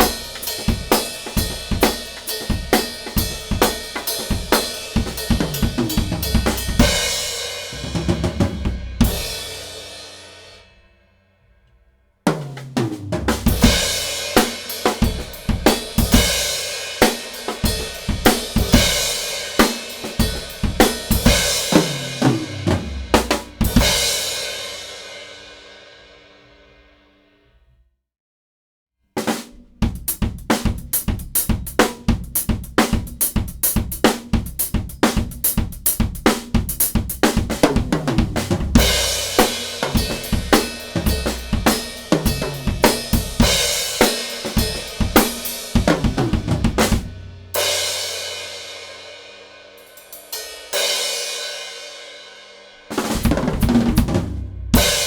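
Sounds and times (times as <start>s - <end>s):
drum kit playing: 0.0s - 10.6s, 12.3s - 25.4s, 29.2s - 51.9s, 52.9s - 55.0s.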